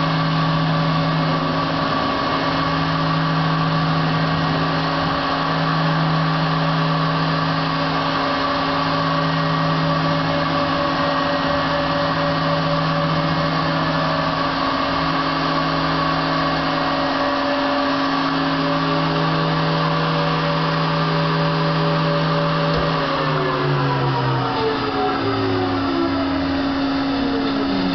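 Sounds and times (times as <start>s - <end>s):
cnc router motor hum with whine: 0.0s - 27.9s.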